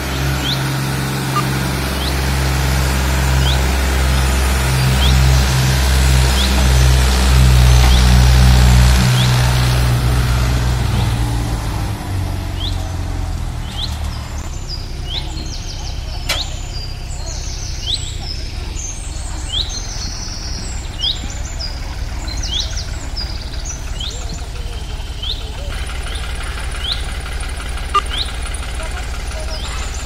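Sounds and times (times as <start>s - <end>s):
birds chirping: 0.0s - 30.0s
tractor diesel engine running: 0.0s - 30.0s.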